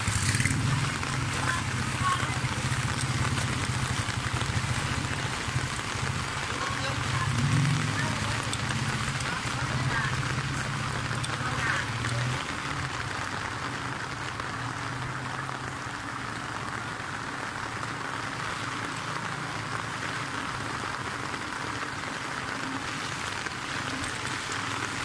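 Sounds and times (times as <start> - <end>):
rain falling on water: 0.0 - 25.0.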